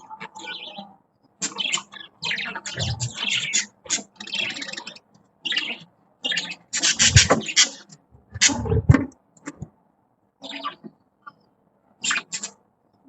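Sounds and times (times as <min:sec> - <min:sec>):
budgies chattering and warbling: 0:00.0 - 0:09.7, 0:10.4 - 0:12.7.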